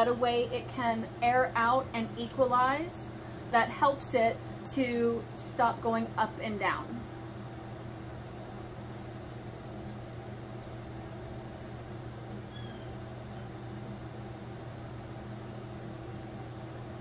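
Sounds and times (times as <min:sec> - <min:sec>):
low hum of equipment: 0:00.0 - 0:17.0.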